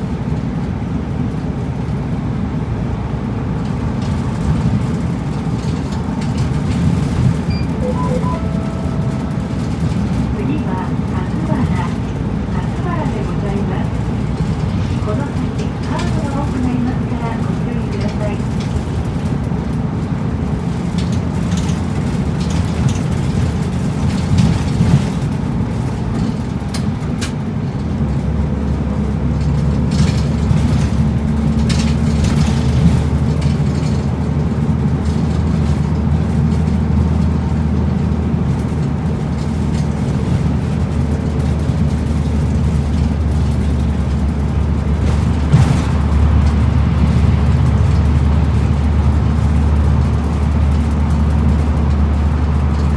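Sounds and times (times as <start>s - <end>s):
bus engine hum: 0.0s - 52.9s
road noise: 0.0s - 52.9s.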